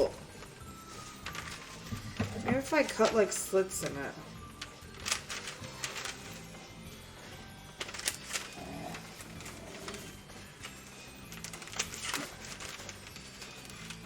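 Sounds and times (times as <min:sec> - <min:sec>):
soft background music: 0:00.0 - 0:14.0
wrapping paper crinkling: 0:00.0 - 0:14.0.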